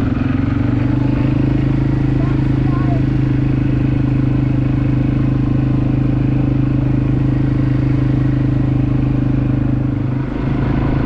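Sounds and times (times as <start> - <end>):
quad bike engine running: 0.0 - 11.0.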